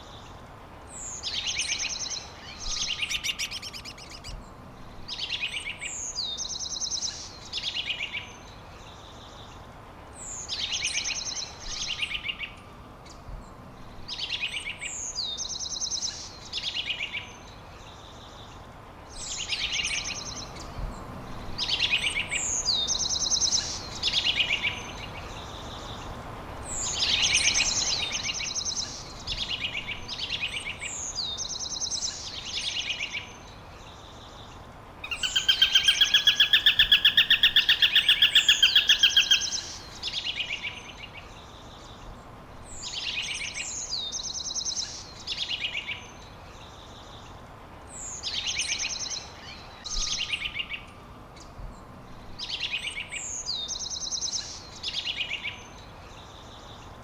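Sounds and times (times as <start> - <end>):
songbird singing a trill: 0.0 - 9.6, 10.2 - 57.0
outdoor background noise: 0.0 - 57.0.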